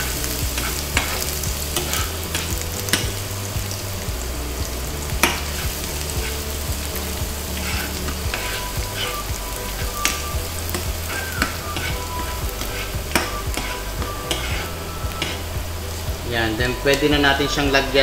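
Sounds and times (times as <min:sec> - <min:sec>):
garlic and onion sizzling in oil: 0:00.0 - 0:18.0.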